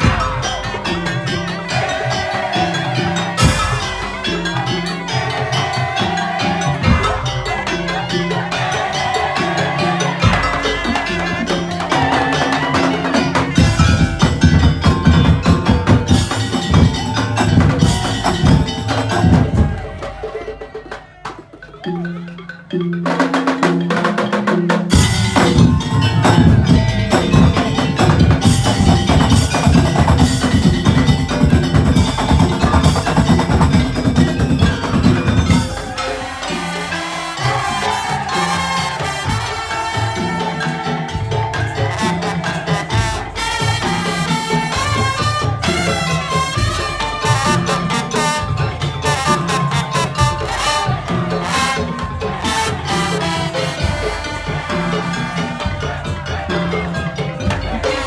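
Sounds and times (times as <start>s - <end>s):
percussion ensemble music: 0.0s - 58.0s.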